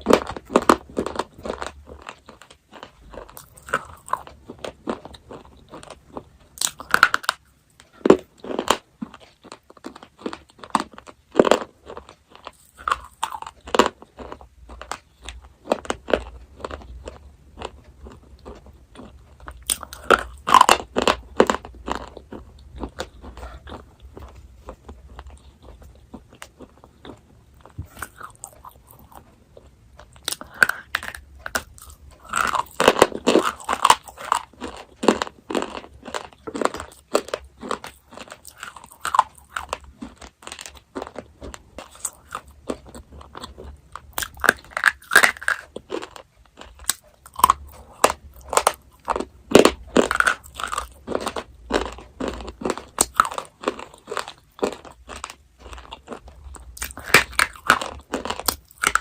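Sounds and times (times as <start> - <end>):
chocolate crunching and chewing: 0.0 - 59.0.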